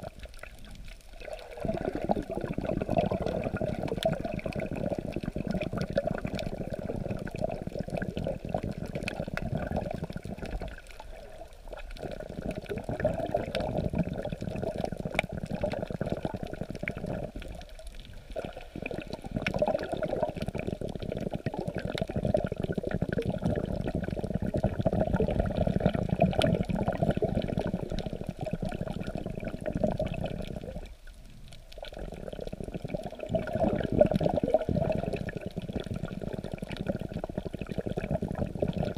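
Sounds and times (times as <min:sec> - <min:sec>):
faint crackling clicks: 0:00.0 - 0:38.9.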